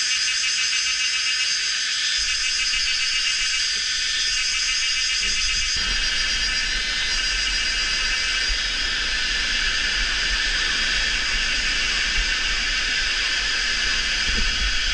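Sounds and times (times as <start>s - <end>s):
chorus of calling insects: 0.0s - 14.9s.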